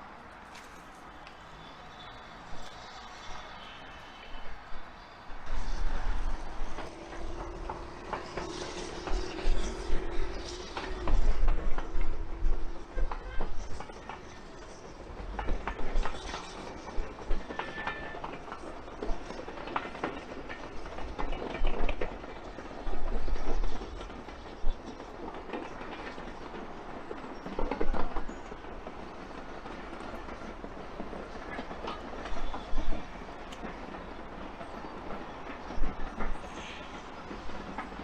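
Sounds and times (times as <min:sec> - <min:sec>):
train rumbling: 0:00.0 - 0:38.0
train wheels clacking over rail joints: 0:05.6 - 0:38.0.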